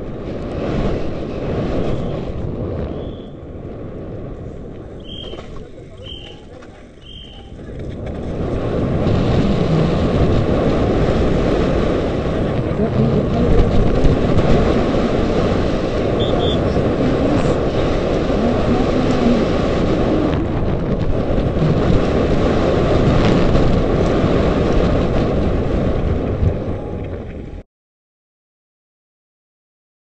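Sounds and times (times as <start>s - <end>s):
bike tyres rumbling on gravel: 0.0s - 27.6s
wind on microphone: 0.0s - 27.6s.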